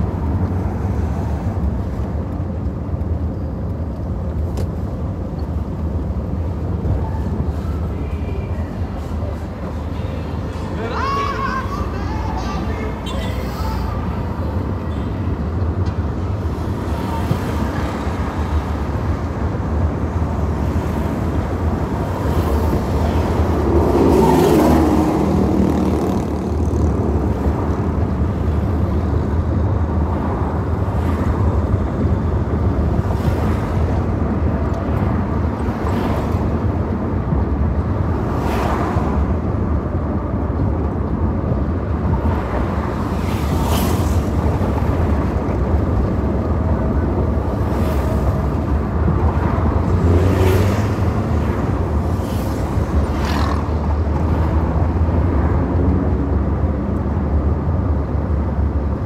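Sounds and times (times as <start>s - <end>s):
engine and road rumble: 0.0s - 59.0s
passing traffic whooshes: 0.0s - 59.0s.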